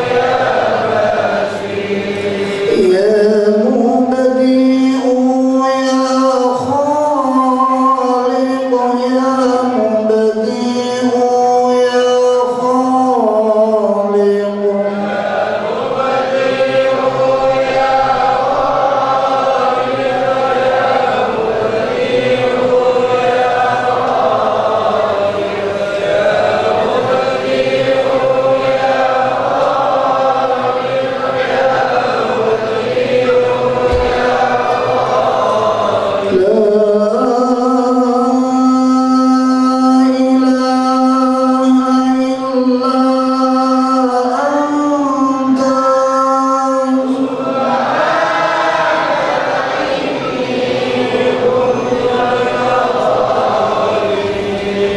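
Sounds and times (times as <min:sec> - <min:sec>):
congregation chanting in unison: 0:00.0 - 0:54.9
man chanting over a microphone: 0:00.0 - 0:54.9.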